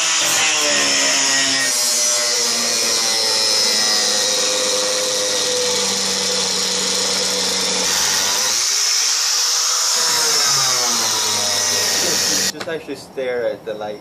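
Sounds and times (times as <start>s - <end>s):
angle grinder grinding metal: 0.0s - 12.5s.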